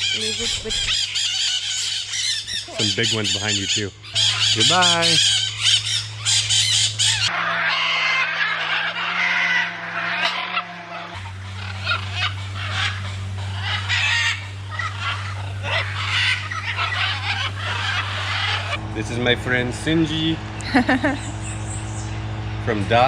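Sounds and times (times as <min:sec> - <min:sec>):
birds squawking: 0:00.0 - 0:23.0
steady low hum: 0:00.0 - 0:23.0.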